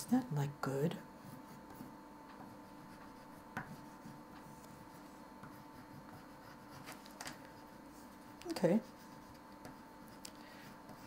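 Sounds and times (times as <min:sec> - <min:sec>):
oil pastel scratching on paper: 0:01.2 - 0:11.0.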